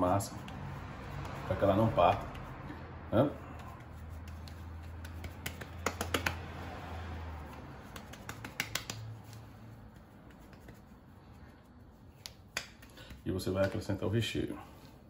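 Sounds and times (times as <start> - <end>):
hands slapping dough: 0.2 - 2.7, 3.4 - 14.0.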